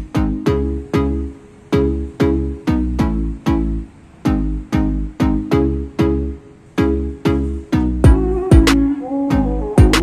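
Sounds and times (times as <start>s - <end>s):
deep bass: 0.0s - 10.0s.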